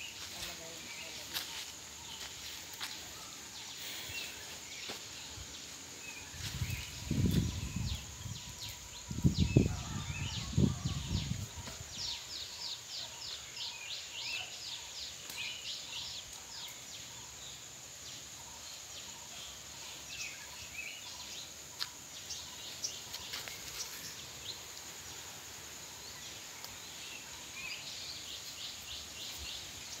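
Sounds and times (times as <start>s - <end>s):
small birds chirping: 0.0s - 10.0s, 11.0s - 30.0s.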